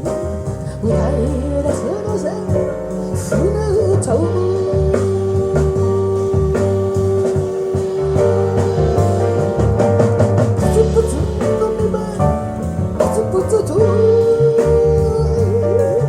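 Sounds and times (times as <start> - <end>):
ballad song over loudspeakers: 0.0 - 16.0.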